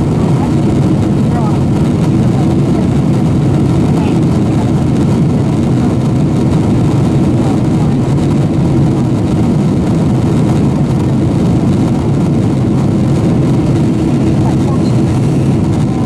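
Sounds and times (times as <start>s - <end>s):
jet engine and airflow rumble: 0.0s - 16.0s.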